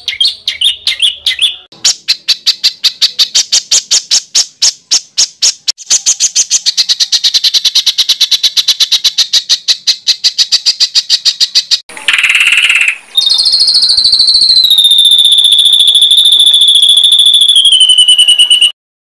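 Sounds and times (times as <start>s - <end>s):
songbird calling sharp notes: 0.0s - 18.7s.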